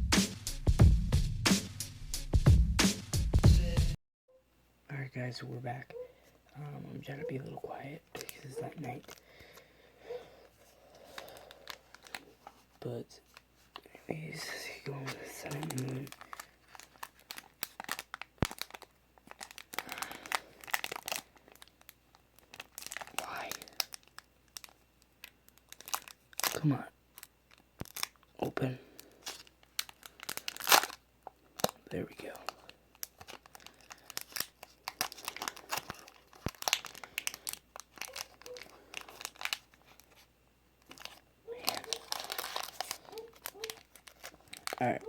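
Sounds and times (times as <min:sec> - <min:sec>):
foil wrapper crinkling: 0:07.1 - 0:45.0.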